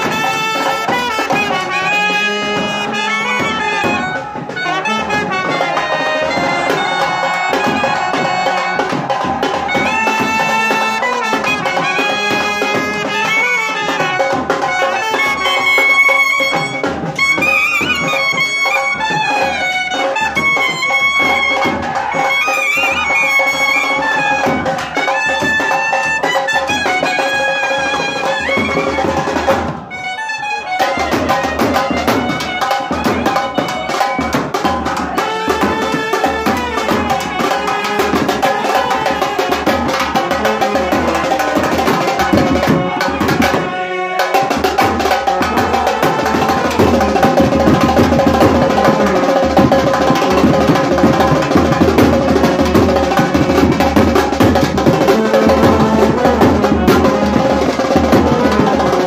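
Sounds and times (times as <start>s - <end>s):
clarinets and trumpet melody: 0.0s - 59.0s
snare drum and bass drum beat: 0.0s - 59.0s.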